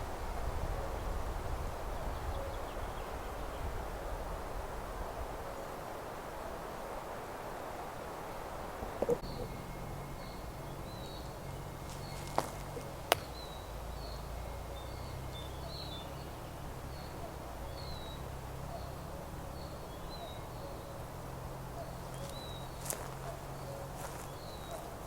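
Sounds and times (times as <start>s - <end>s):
outdoor background noise: 0.0s - 25.0s
songbirds chirping: 0.0s - 25.0s.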